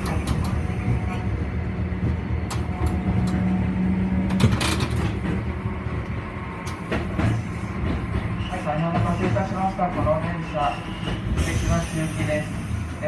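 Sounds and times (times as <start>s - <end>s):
tram motor hum and rumble: 0.0s - 13.0s.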